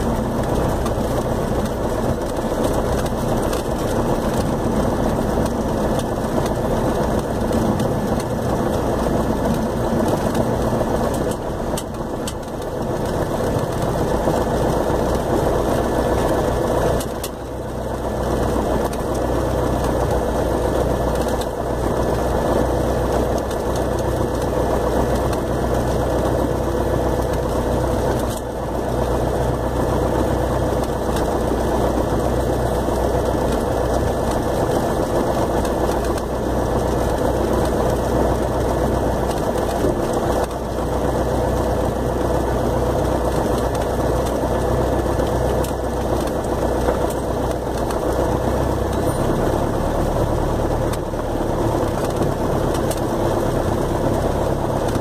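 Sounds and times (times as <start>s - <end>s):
airplane engine idling: 0.0s - 55.0s.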